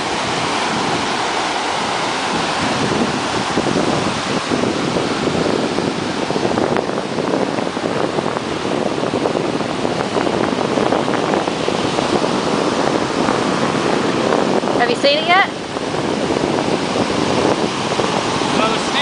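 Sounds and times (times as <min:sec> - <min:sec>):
ocean surf washing: 0:00.0 - 0:19.0
wind on microphone: 0:00.0 - 0:19.0.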